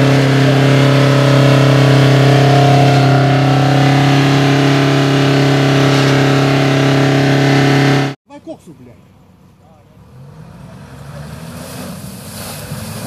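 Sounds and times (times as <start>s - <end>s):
engine revving high: 0.0s - 8.2s, 10.0s - 13.0s.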